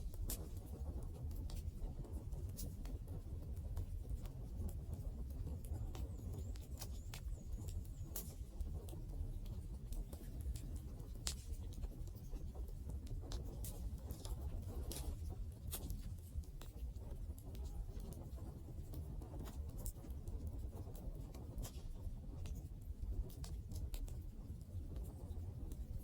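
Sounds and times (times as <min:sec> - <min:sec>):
low fire rumble: 0:00.0 - 0:26.0.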